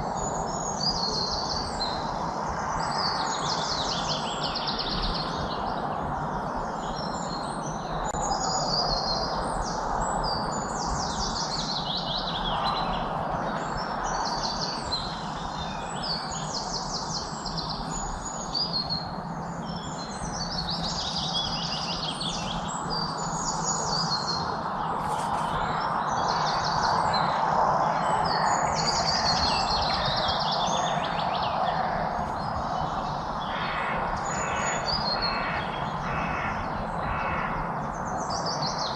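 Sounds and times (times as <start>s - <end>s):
songbirds singing trills: 0.0s - 38.9s
steady background rush: 0.0s - 38.9s.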